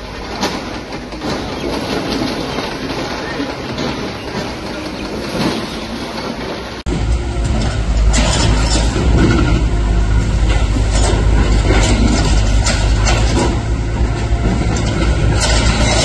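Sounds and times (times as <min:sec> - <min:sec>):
demolition debris knocking: 0:00.0 - 0:16.0
diesel engine running under load: 0:00.0 - 0:16.0.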